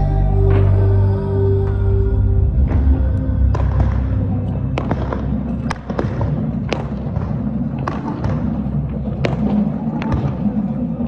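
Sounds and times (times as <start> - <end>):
music with low drone: 0.0 - 11.0.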